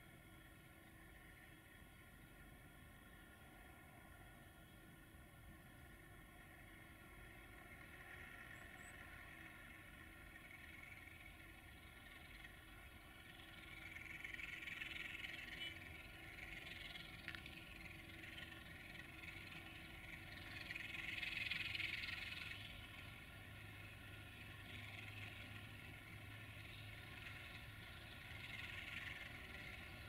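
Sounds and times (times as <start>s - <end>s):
diesel locomotive engine running: 0.0s - 30.0s.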